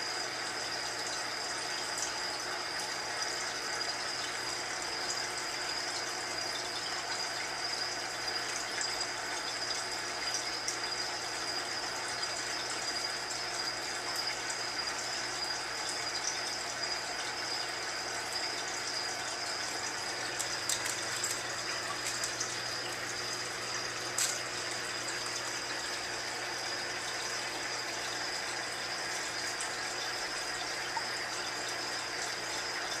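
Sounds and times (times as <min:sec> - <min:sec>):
aquarium pump water rushing: 0:00.0 - 0:33.0.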